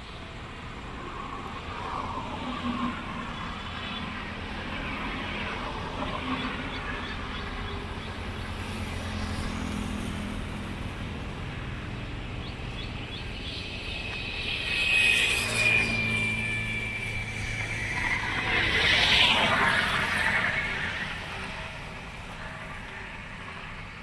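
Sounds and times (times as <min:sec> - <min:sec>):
highway traffic rumble: 0:00.0 - 0:24.0
vehicles passing: 0:00.0 - 0:24.0.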